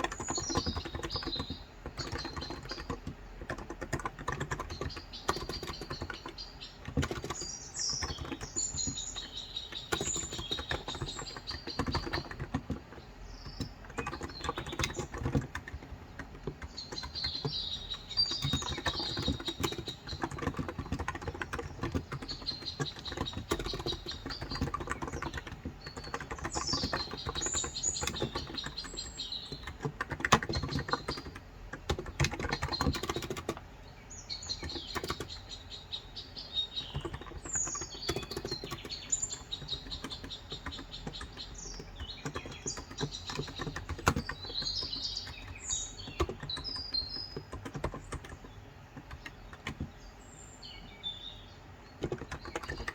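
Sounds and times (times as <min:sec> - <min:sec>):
keyboard typing: 0:00.0 - 0:33.8, 0:34.4 - 0:50.0, 0:51.9 - 0:52.9
small birds chirping: 0:00.0 - 0:52.9.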